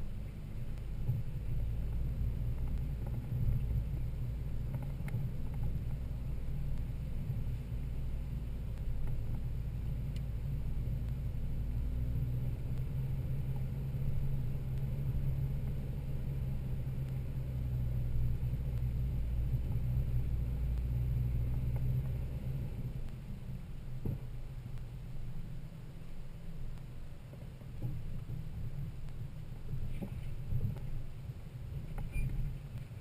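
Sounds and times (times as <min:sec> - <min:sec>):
low engine and drivetrain rumble: 0:00.0 - 0:33.0.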